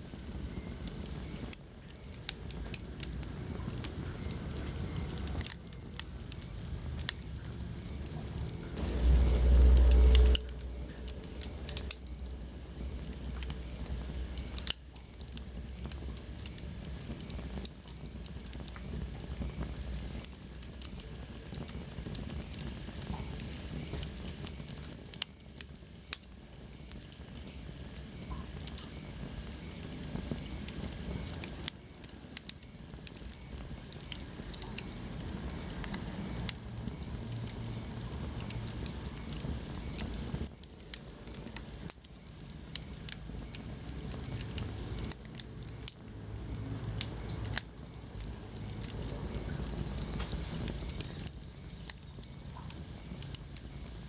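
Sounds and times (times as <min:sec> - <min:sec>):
fire popping and snapping: 0:00.0 - 0:54.0
wood fire crackling: 0:00.0 - 0:54.0.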